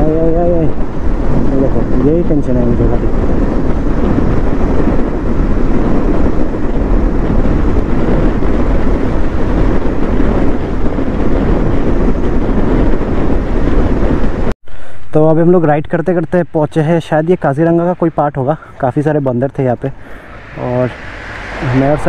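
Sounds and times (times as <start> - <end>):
wind buffeting microphone: 0.0 - 14.9, 16.7 - 22.0.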